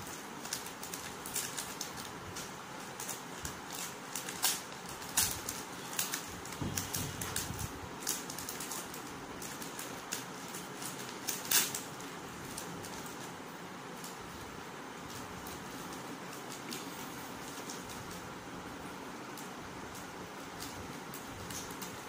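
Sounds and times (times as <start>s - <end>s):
plastic packaging crinkling: 0.0s - 18.4s.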